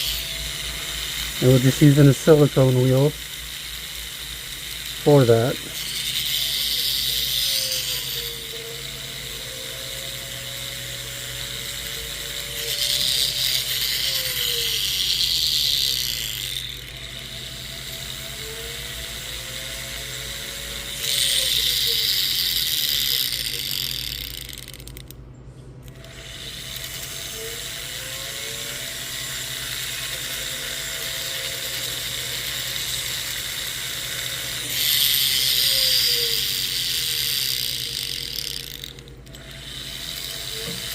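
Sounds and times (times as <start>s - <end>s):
polishing wheel grinding on metal: 0.0s - 25.1s, 25.9s - 40.9s
rotary tool motor whine: 0.0s - 40.9s.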